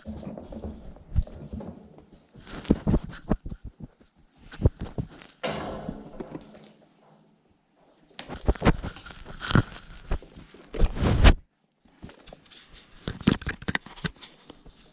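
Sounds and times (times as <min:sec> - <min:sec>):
crackling and rustling near microphone: 0:00.0 - 0:14.9.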